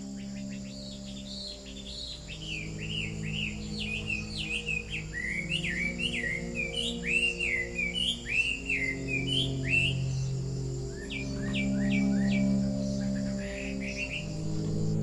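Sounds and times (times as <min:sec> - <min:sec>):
ambient music pad: 0:00.0 - 0:15.0
songbirds chirping: 0:00.0 - 0:15.0.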